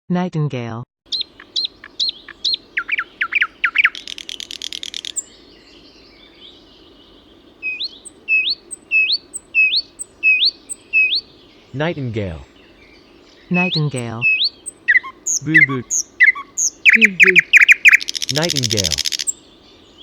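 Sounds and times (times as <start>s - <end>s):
nightingale singing: 1.1s - 20.0s.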